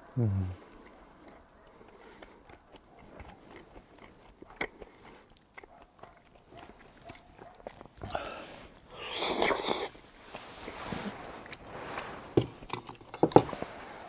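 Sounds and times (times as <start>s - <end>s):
person chewing wet food: 0.0s - 14.0s.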